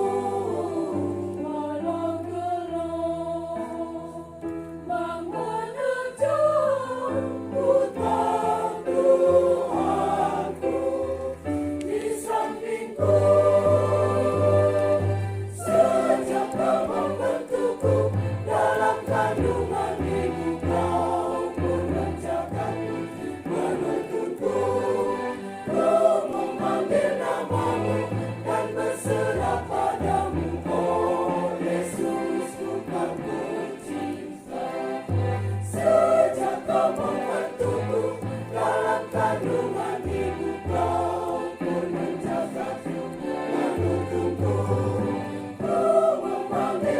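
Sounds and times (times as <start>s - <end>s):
church choir singing a hymn: 0.0s - 46.9s.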